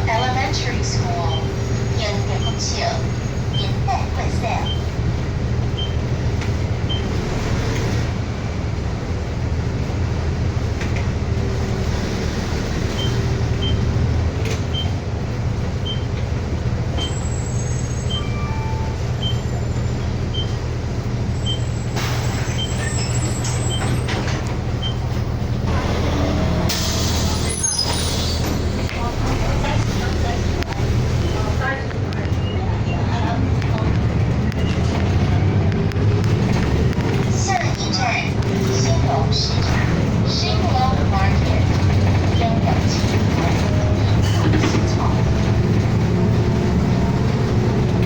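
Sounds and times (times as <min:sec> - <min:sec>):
bus engine drone: 0:00.0 - 0:48.0
road noise: 0:00.0 - 0:48.0.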